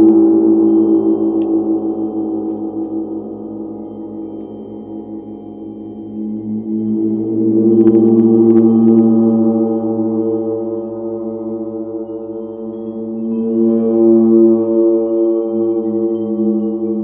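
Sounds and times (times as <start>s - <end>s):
large gongs humming: 0.0s - 17.0s.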